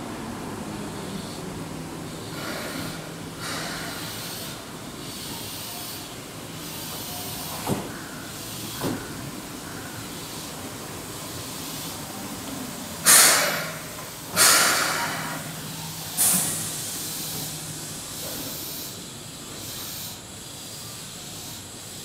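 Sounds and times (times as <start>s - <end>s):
low train hum: 0.0s - 22.0s
train venting compressed air: 1.0s - 22.0s.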